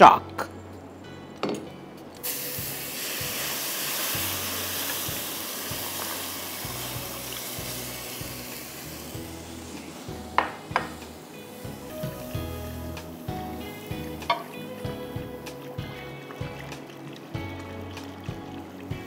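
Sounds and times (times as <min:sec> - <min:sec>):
liquid sizzling in hot pan: 0:02.2 - 0:19.0.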